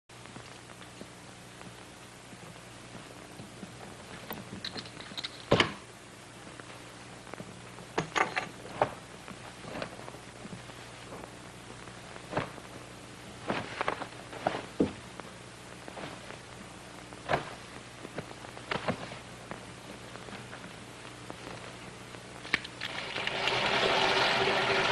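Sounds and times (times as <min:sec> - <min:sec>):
faint steady hum: 0:00.1 - 0:24.9.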